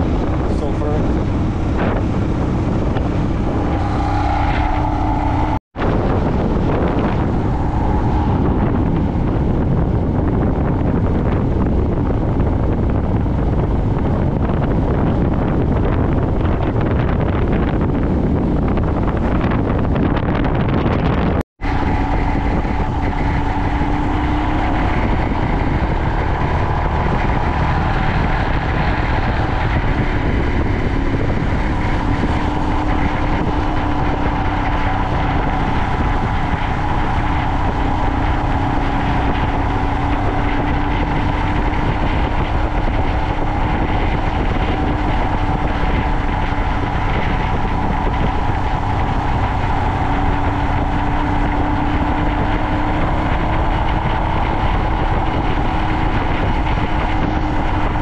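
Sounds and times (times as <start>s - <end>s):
motorcycle engine drone: 0.0s - 58.0s
road and wind noise: 0.0s - 58.0s.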